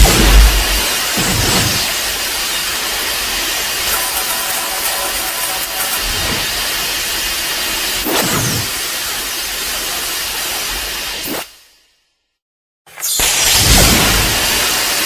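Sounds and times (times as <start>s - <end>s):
loud mechanical hiss: 0.0s - 11.8s, 13.0s - 15.0s.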